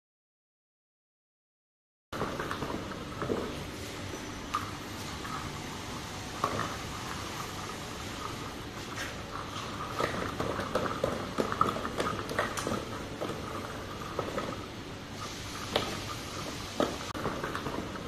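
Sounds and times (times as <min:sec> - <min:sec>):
machine running hum: 0:02.2 - 0:18.0.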